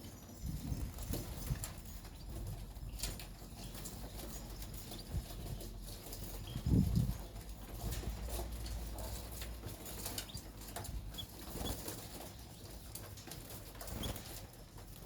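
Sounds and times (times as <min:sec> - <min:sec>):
wings and feet tapping cage: 0:00.0 - 0:15.0.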